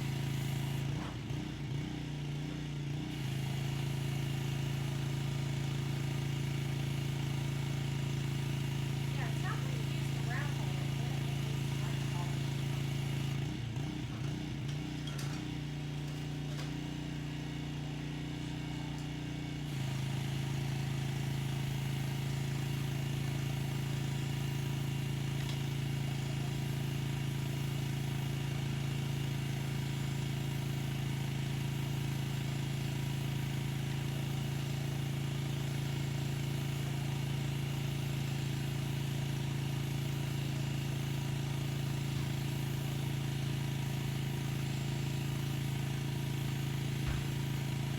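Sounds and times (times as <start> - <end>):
pressure washer running: 0.0 - 47.9.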